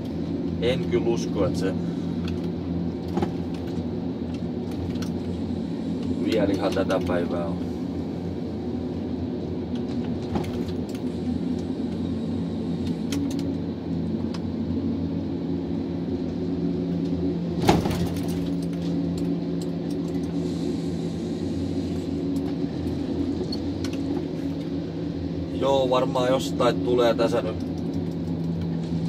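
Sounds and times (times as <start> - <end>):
harvester diesel engine and hydraulics: 0.0 - 29.0.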